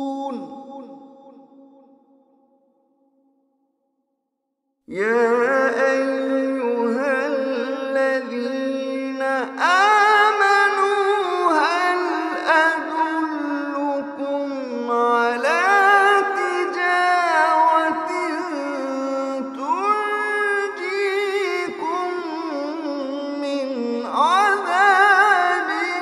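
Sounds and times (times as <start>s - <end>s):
man chanting melodically: 0.0s - 1.8s, 4.9s - 26.0s.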